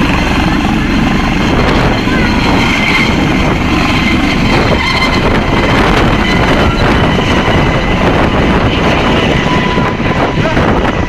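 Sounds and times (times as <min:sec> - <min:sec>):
helicopter rotor and engine noise: 0:00.0 - 0:11.0
high turbine whine: 0:00.0 - 0:11.0.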